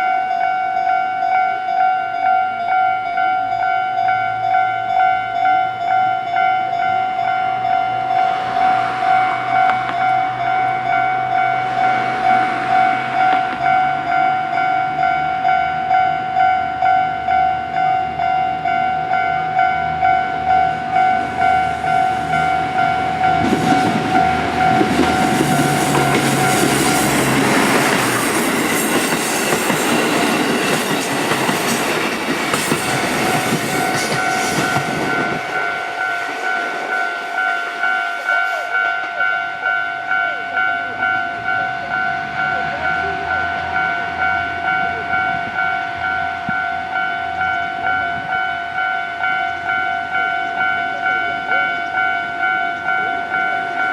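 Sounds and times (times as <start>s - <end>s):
level crossing warning bell: 0.0s - 53.9s
diesel train engine hum: 3.1s - 53.9s
train wheels on rails: 6.3s - 53.9s.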